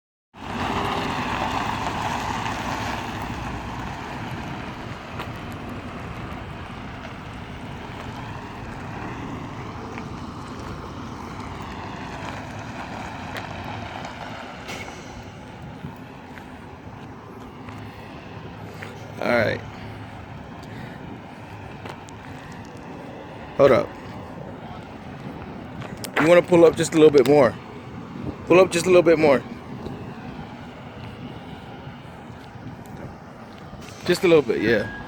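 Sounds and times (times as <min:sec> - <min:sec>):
truck engine rumbling: 0:00.4 - 0:35.0
wind noise: 0:00.5 - 0:35.0.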